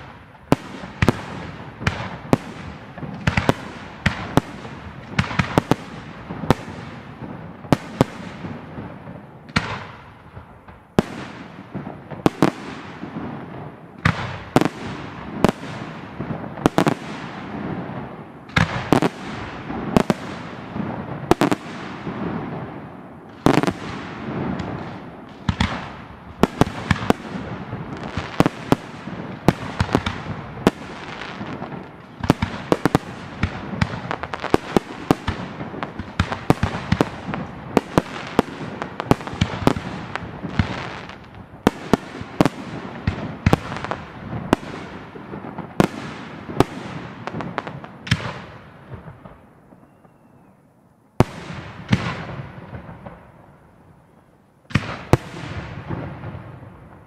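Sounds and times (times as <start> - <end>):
fireworks bangs: 0.0 - 50.6, 51.2 - 53.7, 54.7 - 57.0.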